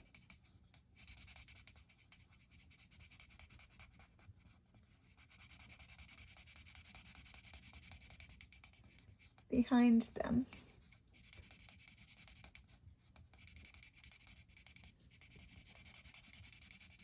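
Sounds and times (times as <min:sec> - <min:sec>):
marker rubbing on paper: 0:00.0 - 0:17.0.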